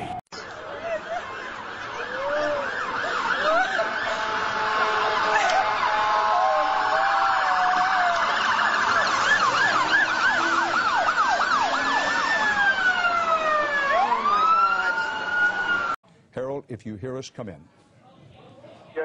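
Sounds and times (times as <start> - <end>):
emergency vehicle sirens: 0.0 - 16.0.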